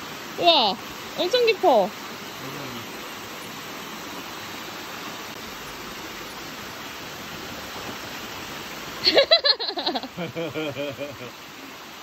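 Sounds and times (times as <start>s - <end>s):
water rushing in stream: 0.0s - 12.0s.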